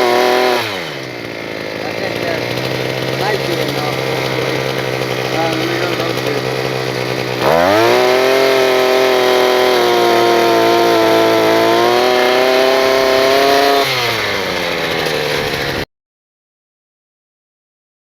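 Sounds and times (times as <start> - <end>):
small engine revving: 0.0 - 15.9.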